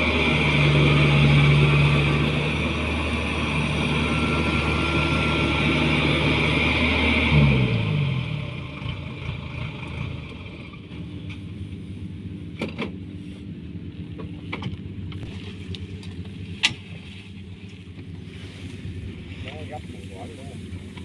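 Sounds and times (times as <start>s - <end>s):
farm machine engine rumbling: 0.0s - 21.0s.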